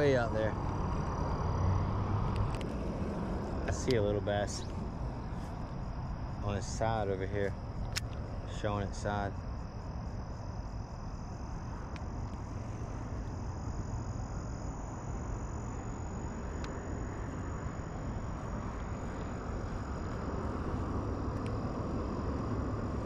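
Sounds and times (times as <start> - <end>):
faint steady high tones: 0.0 - 1.8, 3.1 - 23.0
low rumble and hiss: 0.0 - 23.0.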